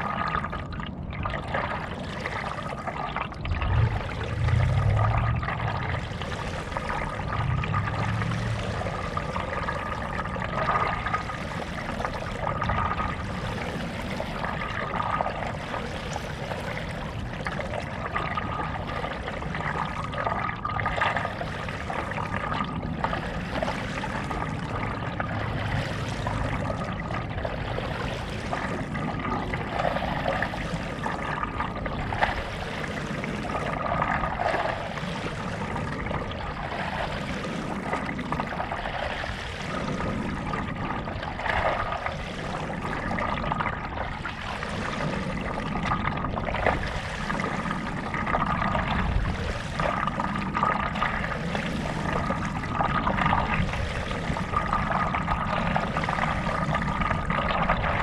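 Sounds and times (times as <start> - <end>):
paddle splashing water: 1.2 - 58.0.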